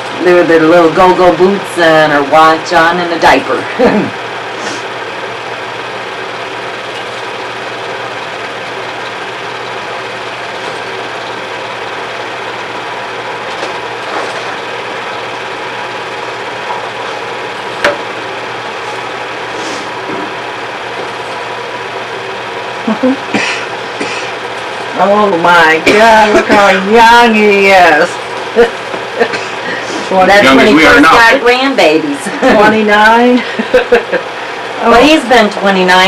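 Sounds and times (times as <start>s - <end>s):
film projector whirring: 0.0s - 36.0s.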